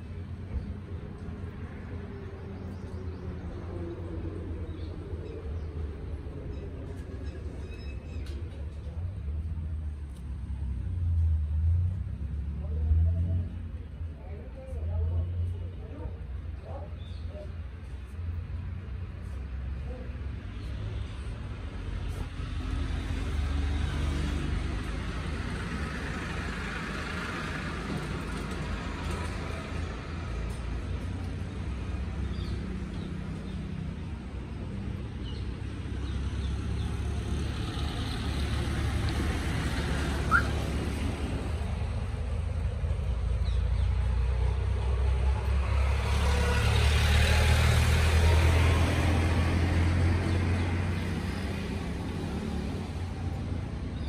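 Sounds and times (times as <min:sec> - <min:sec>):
vehicle road rumble: 0:00.0 - 0:54.0.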